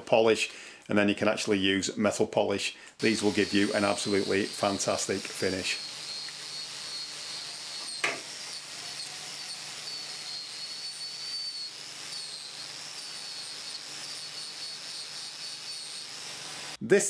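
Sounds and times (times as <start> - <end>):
angle grinder whine: 3.0 - 16.8.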